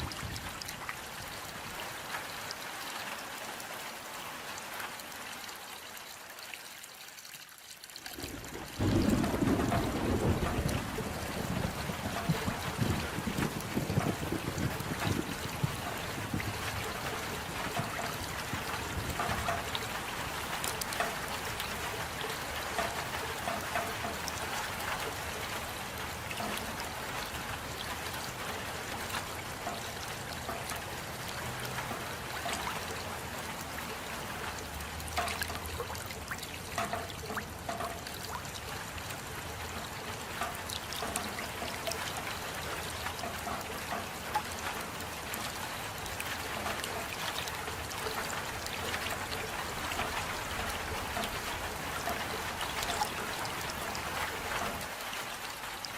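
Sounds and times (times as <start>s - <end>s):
rain falling: 0.0s - 55.9s
water drips: 0.0s - 55.9s
water trickling: 0.0s - 55.9s.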